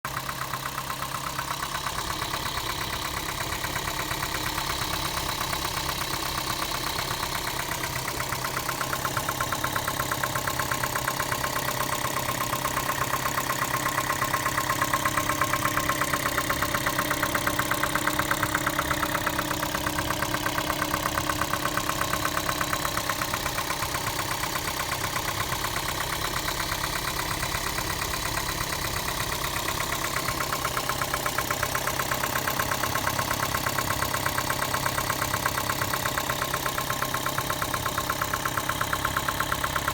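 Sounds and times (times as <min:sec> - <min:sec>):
car engine idling: 0:00.0 - 0:39.9
fast even engine knocking: 0:00.1 - 0:39.9.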